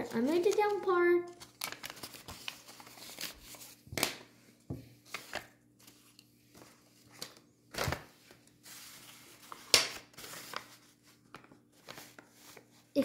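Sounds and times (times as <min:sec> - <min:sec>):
paper rustling: 0:00.0 - 0:04.2, 0:05.0 - 0:13.0.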